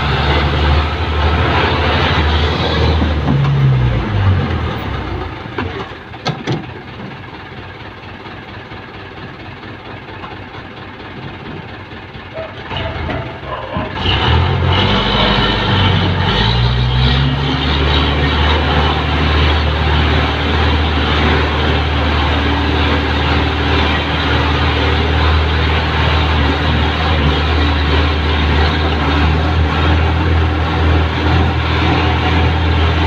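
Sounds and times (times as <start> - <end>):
diesel engine revving and idling: 0.0 - 33.0.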